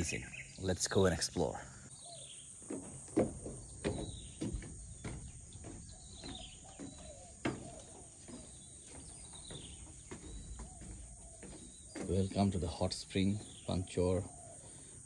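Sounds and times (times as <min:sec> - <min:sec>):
birds chirping: 0:00.0 - 0:15.0
footsteps on wooden boardwalk: 0:02.0 - 0:15.0.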